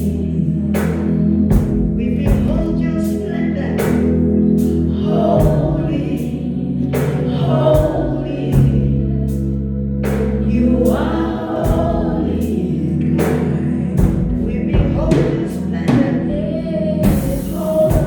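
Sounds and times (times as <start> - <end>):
band chords and bass: 0.0 - 18.0
choir singing: 0.0 - 18.0.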